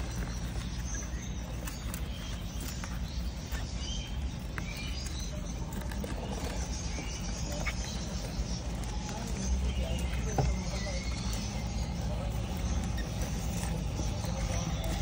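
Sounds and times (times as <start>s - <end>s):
bird chicks chirping: 0.0s - 15.0s.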